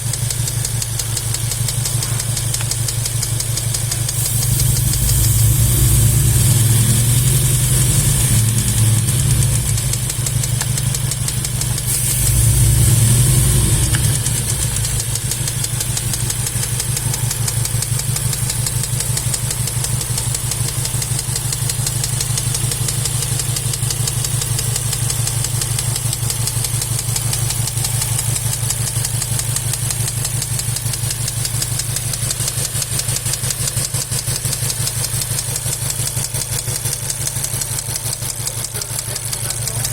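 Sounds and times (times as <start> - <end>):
car engine idling with clacking: 0.0 - 39.9
engine revving: 0.0 - 39.9.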